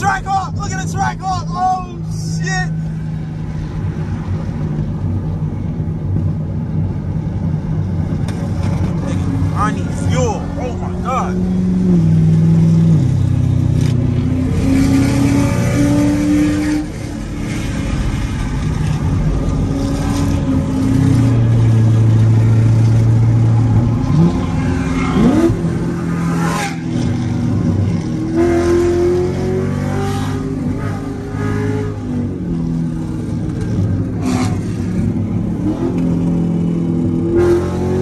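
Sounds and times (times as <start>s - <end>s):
car engine revving: 6.8s - 38.0s.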